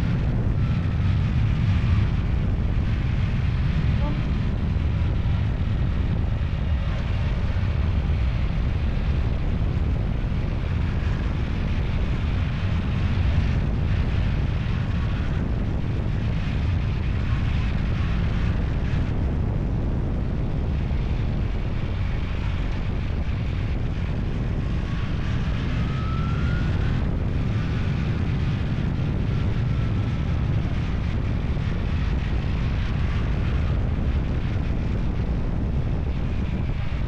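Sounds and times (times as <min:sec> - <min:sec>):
vehicle engine drone: 0:00.0 - 0:37.0
wind rumble on microphone: 0:00.0 - 0:37.0.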